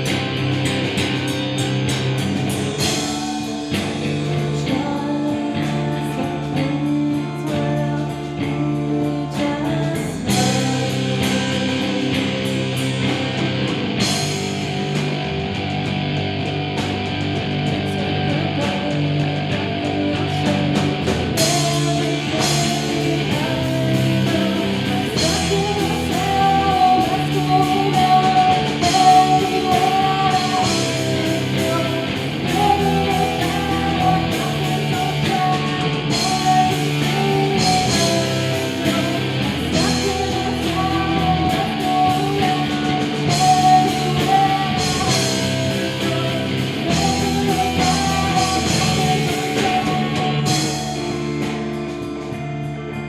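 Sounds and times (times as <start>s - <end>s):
melodic lead guitar line: 0.0s - 53.0s
rock band playing: 0.0s - 53.0s.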